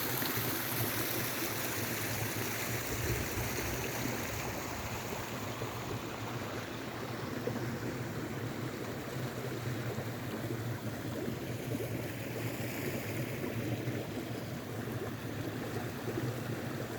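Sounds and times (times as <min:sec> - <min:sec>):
stream gurgling: 0:00.0 - 0:16.9.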